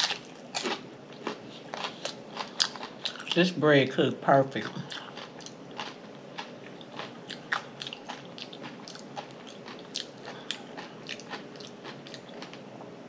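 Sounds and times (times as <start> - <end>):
person chewing cornbread: 0.0 - 3.5, 4.6 - 12.7.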